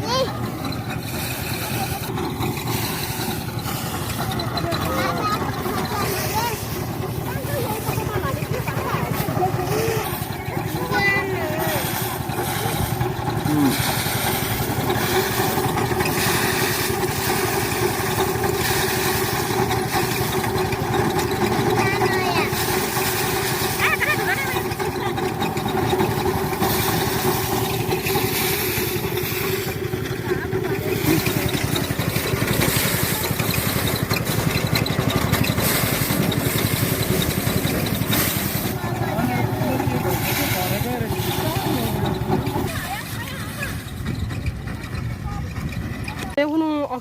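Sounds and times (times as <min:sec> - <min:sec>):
small farm engine running: 0:00.0 - 0:47.0.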